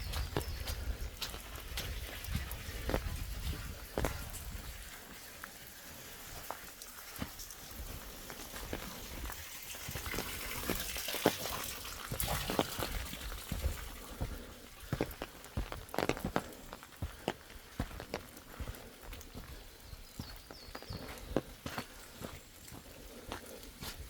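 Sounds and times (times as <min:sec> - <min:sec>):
footsteps on forest path: 0:00.0 - 0:24.0.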